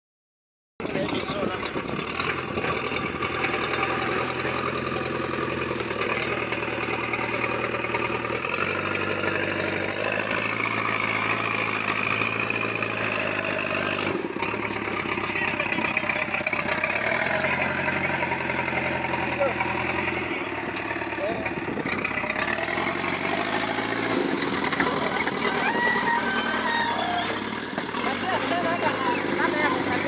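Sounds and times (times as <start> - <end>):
diesel engine running: 0.8 - 30.0.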